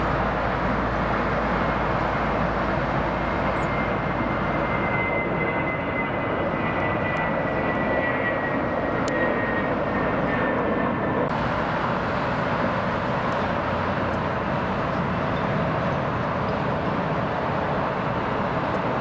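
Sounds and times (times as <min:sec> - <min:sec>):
jet engines roaring on take-off: 0:00.0 - 0:19.0.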